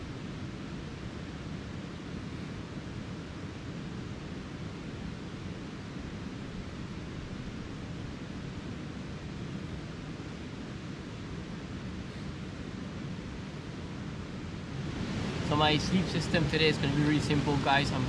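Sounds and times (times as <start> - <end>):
river flowing: 0.0 - 18.0.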